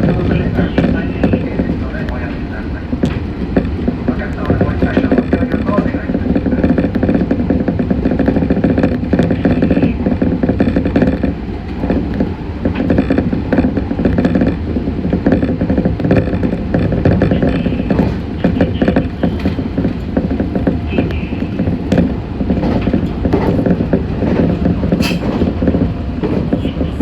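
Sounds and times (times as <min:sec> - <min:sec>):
rattling and clattering: 0:00.0 - 0:27.0
train wheels rumbling: 0:00.0 - 0:27.0.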